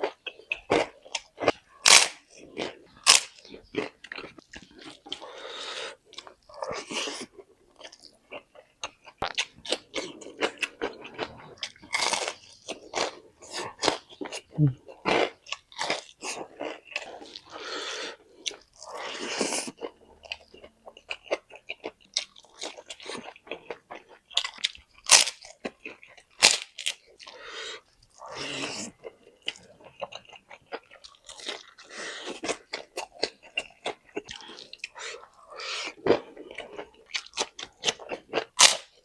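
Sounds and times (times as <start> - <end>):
crunching fried chicken: 0.0 - 5.3, 6.2 - 39.0.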